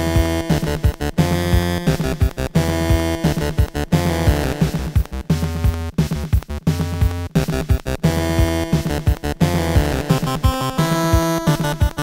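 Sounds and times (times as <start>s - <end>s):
drum machine beat: 0.0s - 12.0s
synthesizer music: 0.0s - 12.0s.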